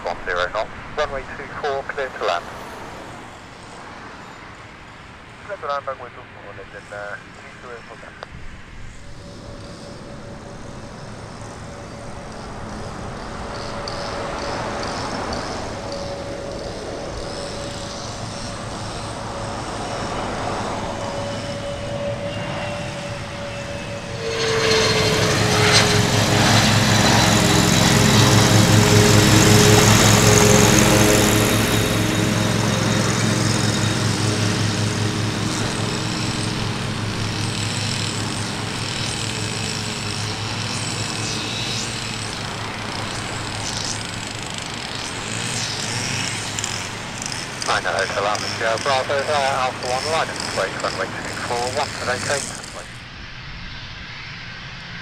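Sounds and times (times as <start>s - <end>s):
jet turbofans whining: 0.0s - 55.0s.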